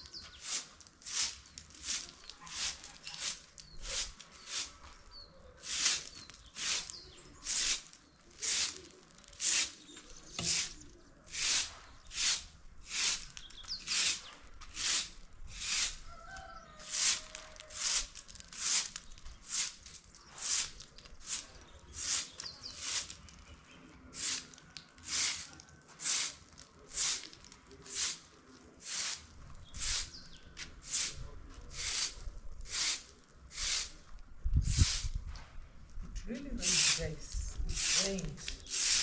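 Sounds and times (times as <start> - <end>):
broom sweeping on brick paving: 0.0 - 23.4, 24.1 - 35.6, 36.4 - 39.0.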